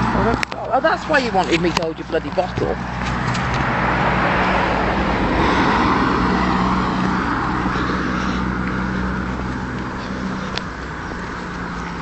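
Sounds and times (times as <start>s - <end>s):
low engine hum: 0.0s - 12.0s
passing vehicles rushing: 0.0s - 12.0s.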